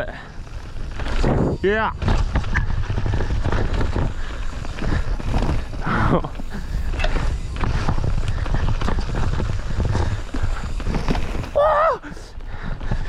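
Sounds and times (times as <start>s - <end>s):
bike knocks and rattles: 0.0s - 13.0s
wind rumbling on microphone: 0.0s - 13.0s.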